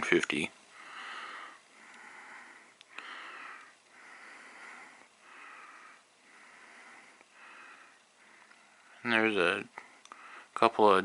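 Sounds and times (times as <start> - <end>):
person breathing: 0.7 - 9.0, 9.7 - 10.6.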